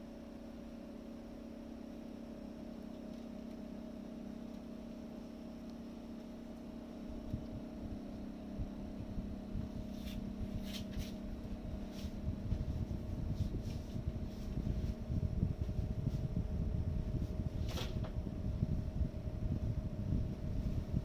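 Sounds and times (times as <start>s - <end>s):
air conditioner compressor humming: 0.0s - 21.0s
low uneven rumble: 2.5s - 21.0s.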